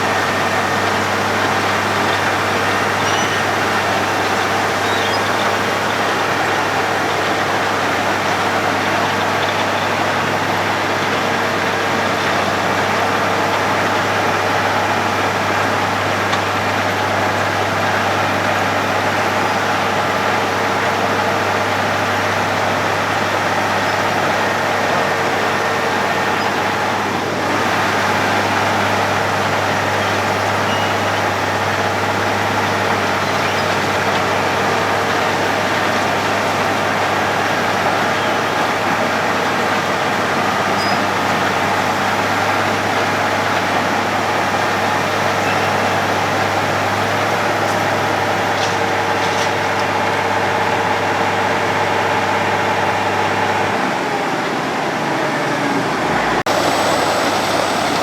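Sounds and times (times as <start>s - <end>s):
road planer running: 0.0s - 58.0s.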